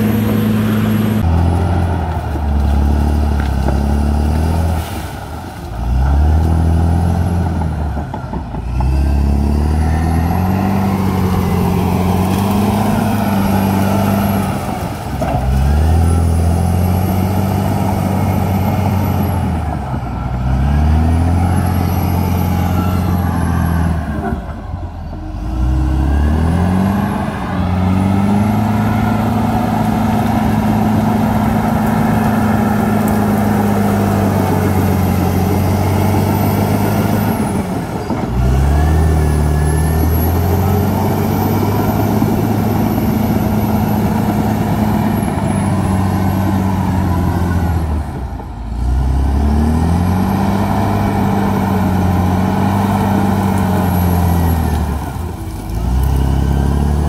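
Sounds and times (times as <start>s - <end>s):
dozer diesel engine under load: 0.0s - 57.0s.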